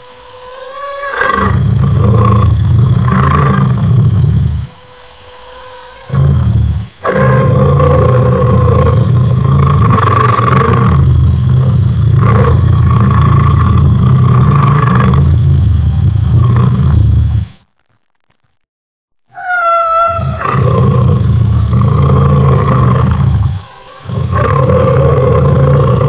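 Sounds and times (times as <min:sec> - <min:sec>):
lion roaring: 0:00.3 - 0:17.5, 0:19.3 - 0:26.0.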